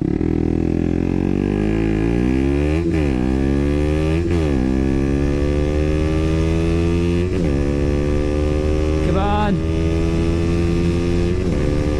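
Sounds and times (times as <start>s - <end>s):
motorcycle engine accelerating hard: 0.0s - 11.9s.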